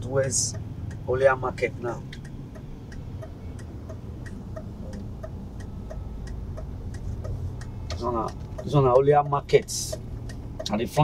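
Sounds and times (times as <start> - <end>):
car engine and road rumble: 0.0 - 11.0
turn signal ticking: 0.0 - 11.0.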